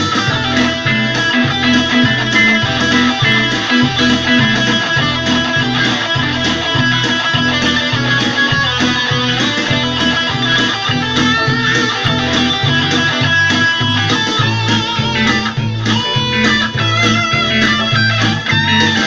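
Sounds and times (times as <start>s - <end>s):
electric guitar picked notes: 0.0s - 19.0s.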